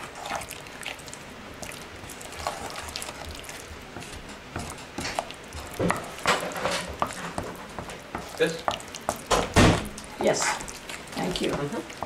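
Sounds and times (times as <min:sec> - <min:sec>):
pesto squishing: 0:00.0 - 0:12.0.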